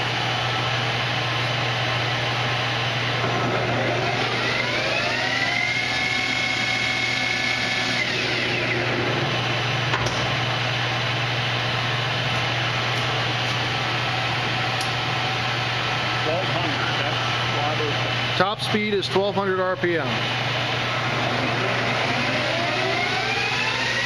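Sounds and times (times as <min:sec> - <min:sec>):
low hum: 0:00.0 - 0:18.4, 0:20.0 - 0:24.0
lathe spindle whine: 0:00.0 - 0:24.0.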